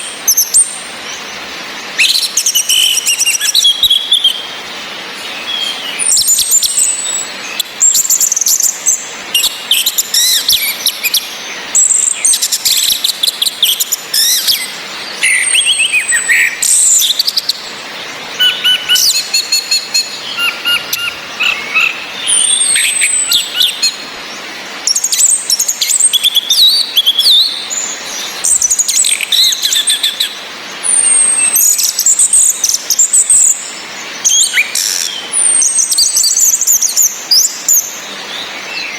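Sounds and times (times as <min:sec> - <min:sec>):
rain hissing: 0:00.0 - 0:38.9
thrushes singing: 0:00.0 - 0:38.9.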